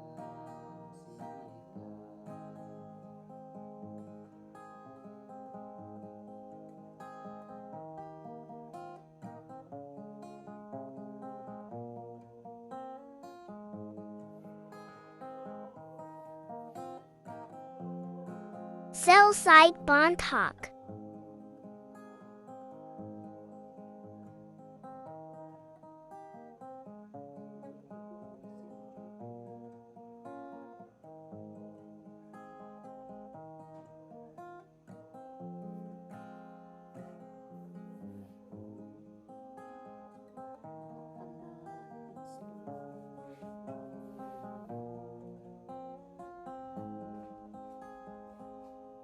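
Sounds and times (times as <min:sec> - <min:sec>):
acoustic guitar music: 0:00.0 - 0:49.0.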